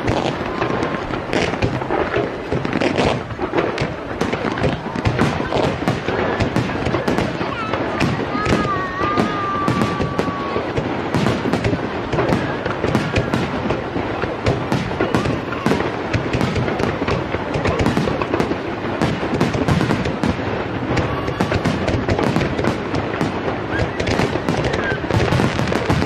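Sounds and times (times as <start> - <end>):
firework whistling: 0.0 - 26.0
fireworks booming and crackling: 0.0 - 26.0.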